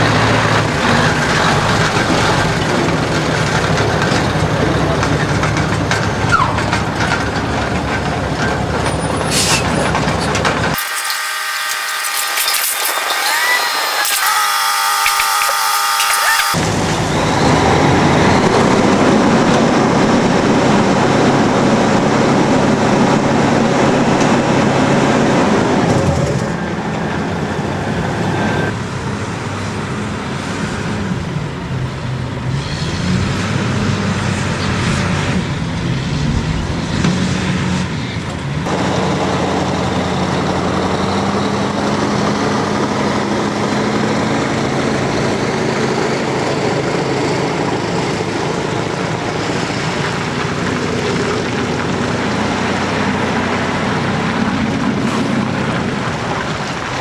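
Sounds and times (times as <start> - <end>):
diesel truck engine driving off: 0.0 - 11.7, 12.9 - 57.0.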